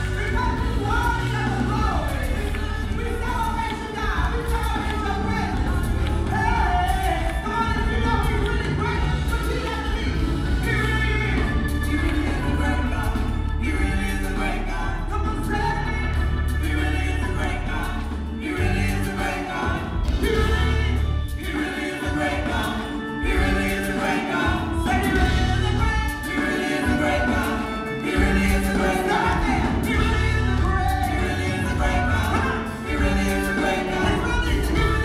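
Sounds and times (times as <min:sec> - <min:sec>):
amplified accompaniment with bass: 0:00.0 - 0:35.0
gospel choir singing: 0:00.0 - 0:35.0
lead singers on microphones: 0:00.0 - 0:35.0.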